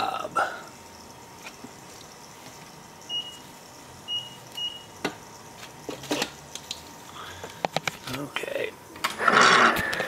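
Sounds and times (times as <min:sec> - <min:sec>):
faint machine hum: 0:00.0 - 0:10.0.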